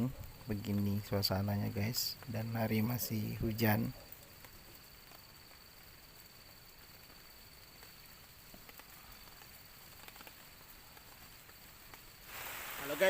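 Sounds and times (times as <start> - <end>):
high-pitched insect tone: 0.0 - 13.0
light rain: 0.0 - 13.0
drip-like ticks: 0.1 - 12.5.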